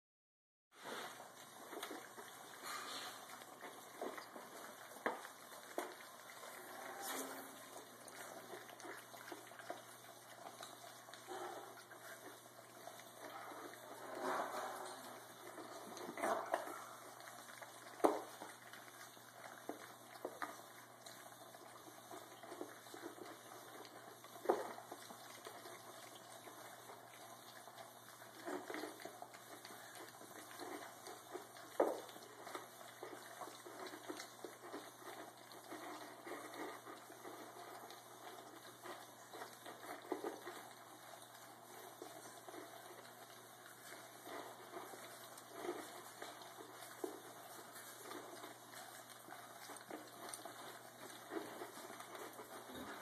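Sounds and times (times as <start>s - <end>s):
puppies slurping and chewing: 0.7s - 53.0s.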